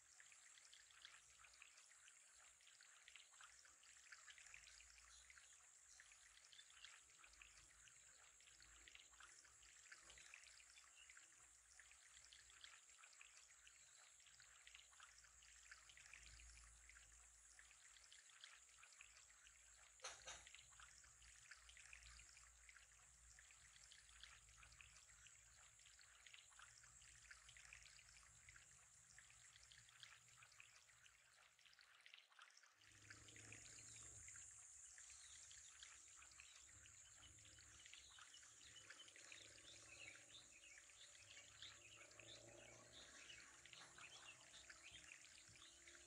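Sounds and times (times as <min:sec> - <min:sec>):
water trickling in aquarium: 0:00.0 - 0:46.0.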